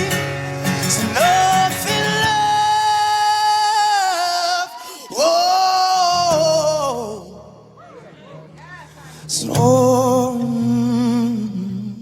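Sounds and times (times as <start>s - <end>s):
man singing long wordless notes: 0.0s - 7.8s, 9.0s - 12.0s.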